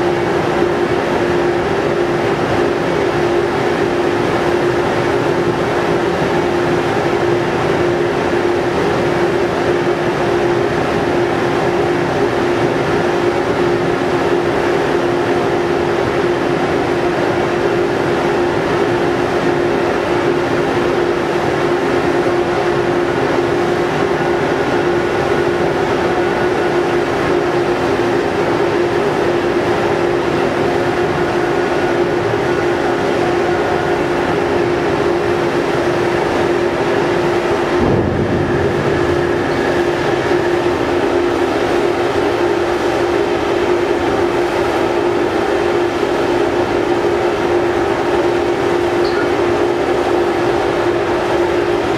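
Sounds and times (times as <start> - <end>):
ship engines droning: 0.0 - 51.9.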